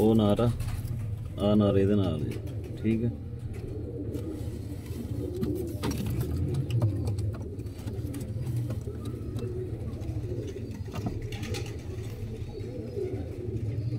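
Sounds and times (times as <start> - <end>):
pigeons cooing: 2.0 - 13.9.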